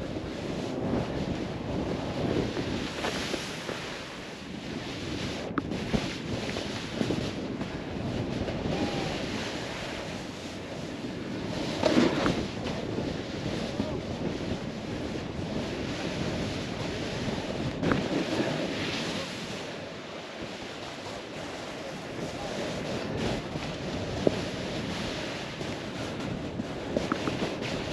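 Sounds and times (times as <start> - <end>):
snowboard hissing through snow: 0.0 - 27.9
wind buffeting microphone: 0.0 - 27.9.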